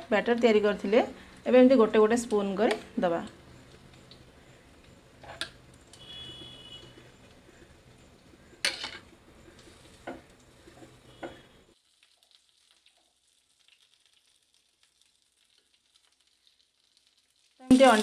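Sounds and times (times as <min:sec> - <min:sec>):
oil sizzling in a pan: 0:00.0 - 0:18.0.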